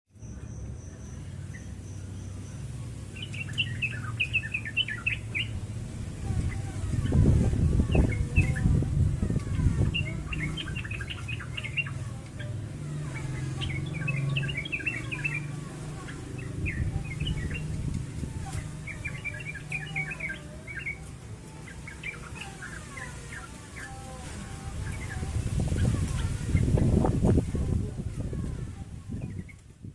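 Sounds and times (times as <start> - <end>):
songbirds chirping: 0.1 - 29.9.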